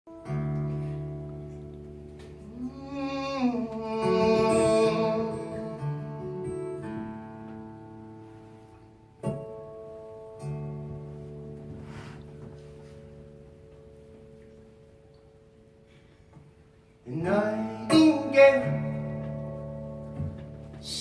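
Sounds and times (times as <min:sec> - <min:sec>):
acoustic guitar playing: 0:00.1 - 0:21.0.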